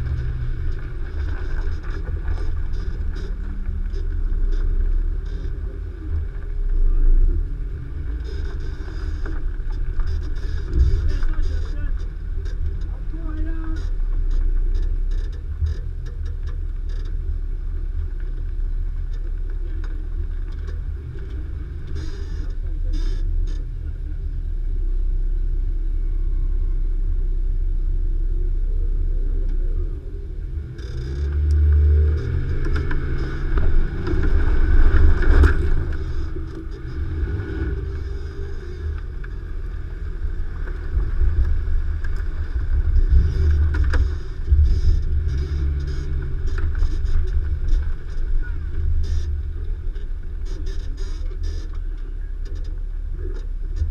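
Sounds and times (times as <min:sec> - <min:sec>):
engine rumbling and revving: 0:00.0 - 0:53.9.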